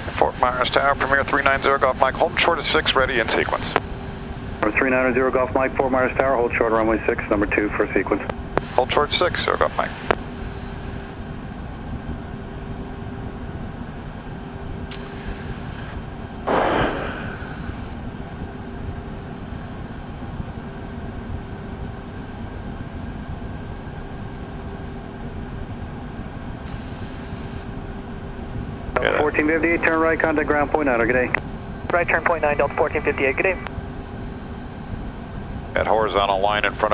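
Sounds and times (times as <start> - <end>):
jet engines idling hum: 0.0 - 36.9.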